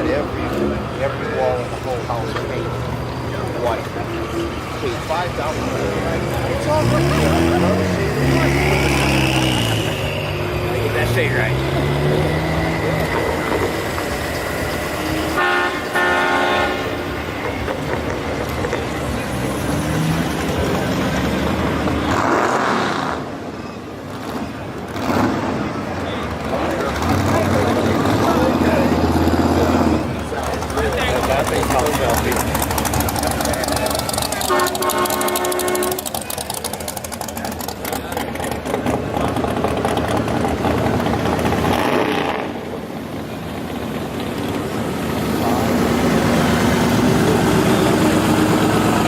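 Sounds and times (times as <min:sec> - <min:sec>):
cars driving past: 0:00.0 - 0:49.0
motor vehicles passing: 0:00.0 - 0:49.0
street noise: 0:00.0 - 0:49.0.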